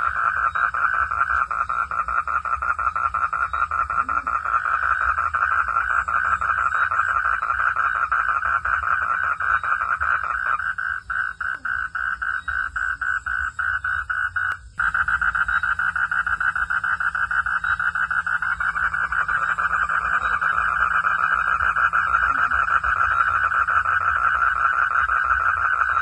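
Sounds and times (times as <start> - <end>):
frogs calling in pulsed chorus: 0.0 - 26.0.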